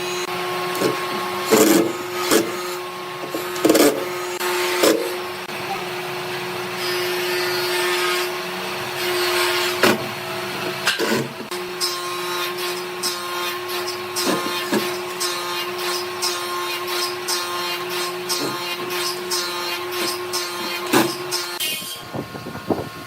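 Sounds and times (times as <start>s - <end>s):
power tool motor running: 0.0s - 23.0s.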